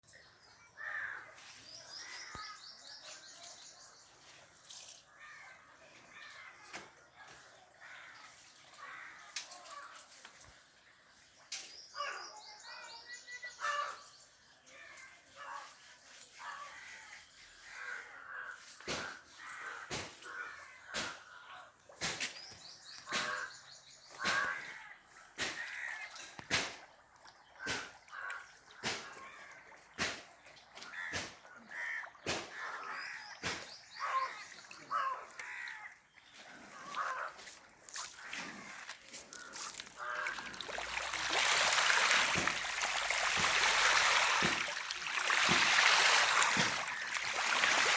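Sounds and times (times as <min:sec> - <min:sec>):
birds calling and chirping: 0:00.0 - 0:47.9.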